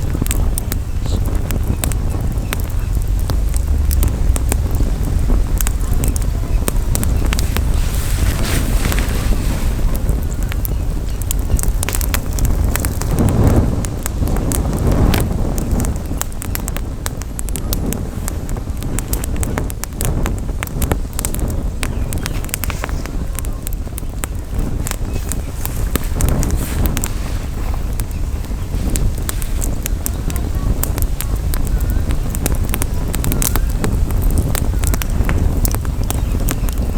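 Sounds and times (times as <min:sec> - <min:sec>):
campfire crackling and popping: 0:00.0 - 0:36.9
wind rumble on microphone: 0:00.0 - 0:36.9.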